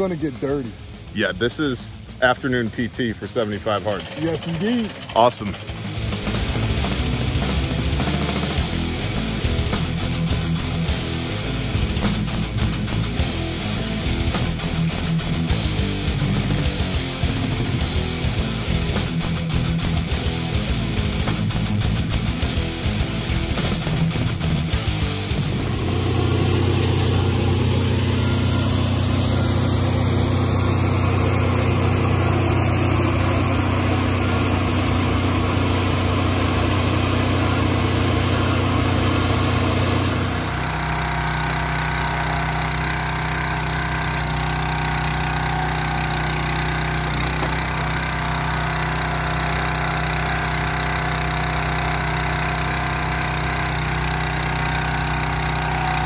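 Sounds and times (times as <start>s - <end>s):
log splitter engine running: 0.0s - 24.0s, 24.7s - 56.0s
small gas engines running: 0.0s - 56.0s.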